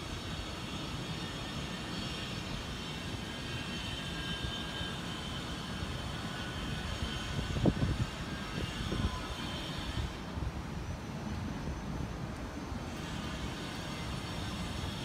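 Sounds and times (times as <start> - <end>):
distant city traffic hum: 0.0 - 15.0.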